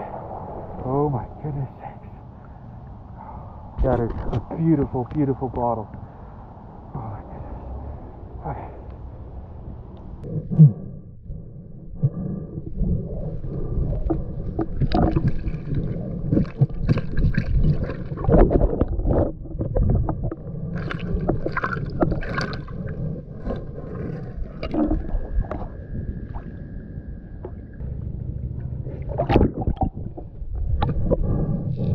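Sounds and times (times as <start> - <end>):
muffled low rumble: 0.0 - 31.9
water sloshing and gurgling: 0.0 - 31.9.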